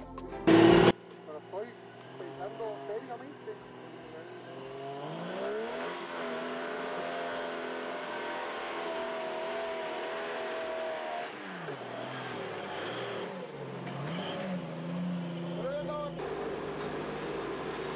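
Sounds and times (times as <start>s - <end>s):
vehicle engine revving: 0.4s - 17.9s.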